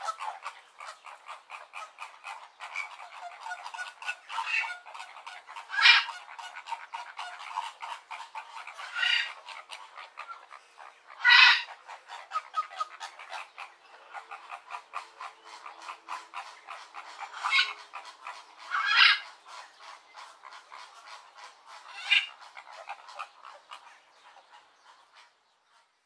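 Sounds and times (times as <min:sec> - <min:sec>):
flamingos calling: 0:00.0 - 0:26.0.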